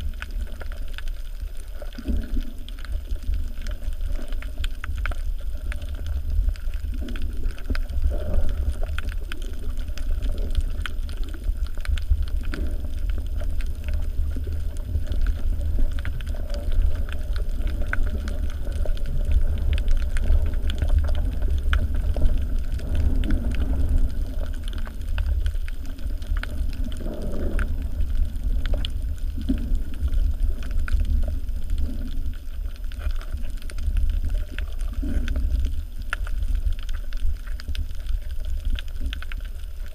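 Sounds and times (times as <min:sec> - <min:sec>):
faint clicks and crackles: 0:00.0 - 0:39.9
low underwater rumble: 0:00.0 - 0:39.9.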